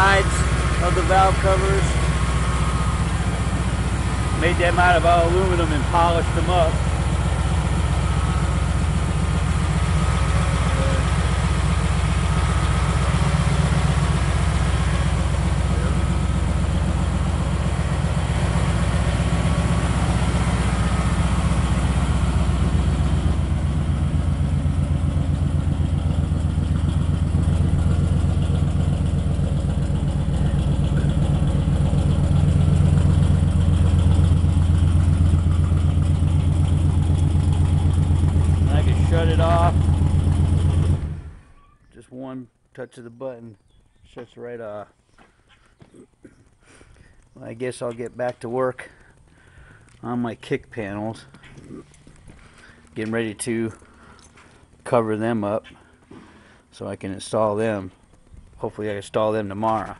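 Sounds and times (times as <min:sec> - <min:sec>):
pickup truck engine idling: 0:00.0 - 0:41.7, 0:44.7 - 0:59.9.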